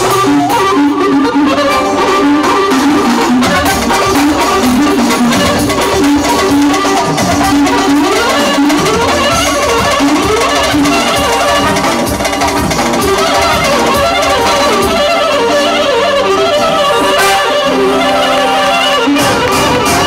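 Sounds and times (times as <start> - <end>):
electronic drum kit: 0.0 - 20.0
wavering melodic lead line: 0.0 - 20.0.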